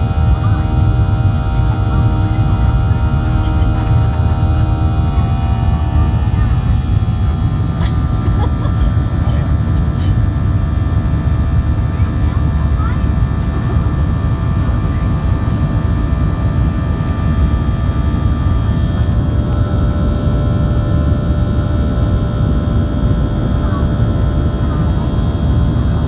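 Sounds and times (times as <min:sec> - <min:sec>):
jet engine cabin rumble: 0:00.0 - 0:26.0
whining fan tones: 0:00.0 - 0:26.0.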